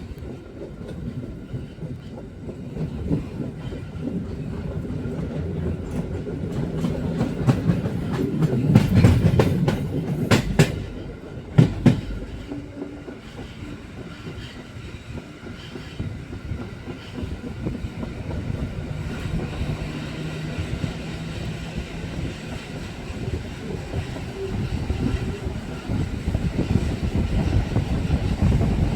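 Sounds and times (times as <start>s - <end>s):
train wheels clattering on rail joints: 0.0s - 28.9s.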